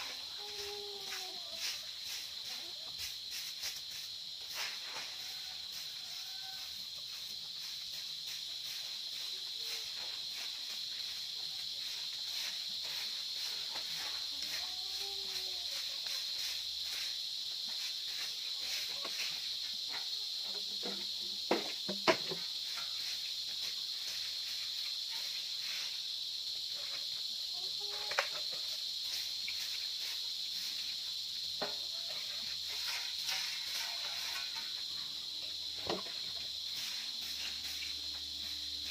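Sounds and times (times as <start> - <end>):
broom sweeping dry leaves: 0.0 - 38.9
high-pitched insect drone: 0.0 - 38.9.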